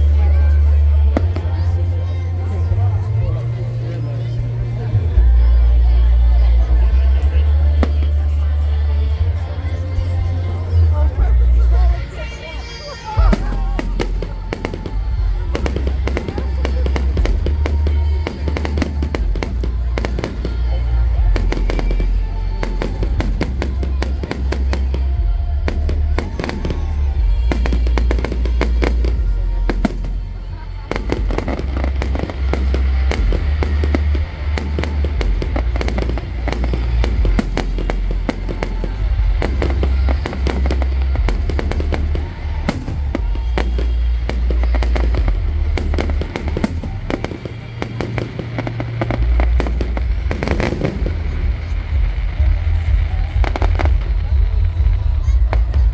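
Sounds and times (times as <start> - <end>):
fireworks bangs and crackling: 0.0 - 55.9
low rumble: 0.0 - 55.9
music playing: 0.0 - 55.9.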